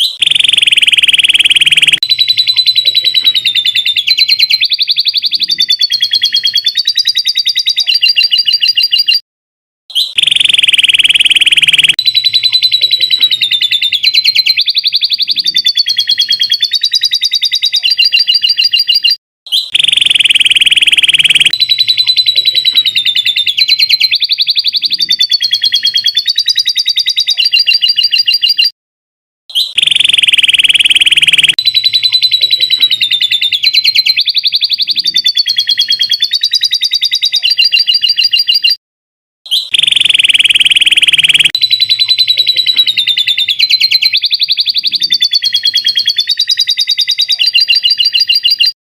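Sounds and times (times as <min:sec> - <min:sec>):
canary singing trills: 0:00.0 - 0:09.2, 0:10.0 - 0:28.7, 0:29.6 - 0:38.8, 0:39.5 - 0:48.8.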